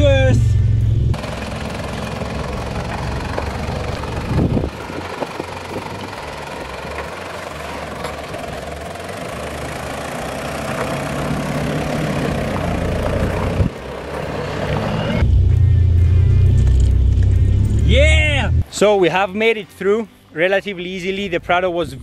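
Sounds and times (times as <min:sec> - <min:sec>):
vehicle bump: 0:00.0 - 0:17.8
engine running at low revs: 0:00.0 - 0:18.6.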